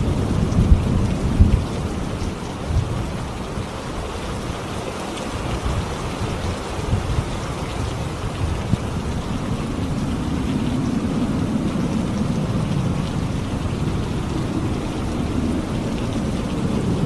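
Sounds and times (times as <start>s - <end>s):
distant thunder rumble: 0.0s - 17.0s
heavy rain: 0.0s - 17.0s.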